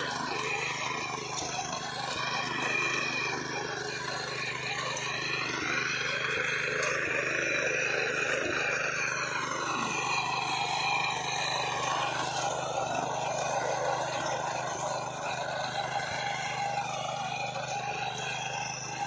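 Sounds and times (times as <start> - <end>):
ploughing machine engine running: 0.0 - 19.0.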